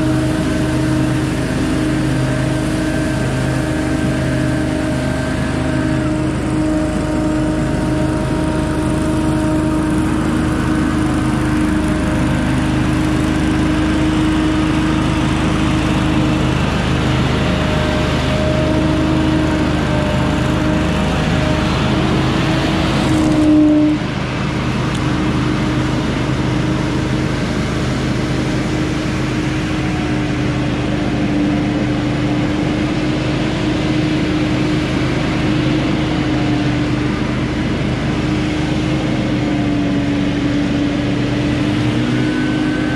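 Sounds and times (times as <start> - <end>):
leaf blower engine running: 0.0 - 42.9.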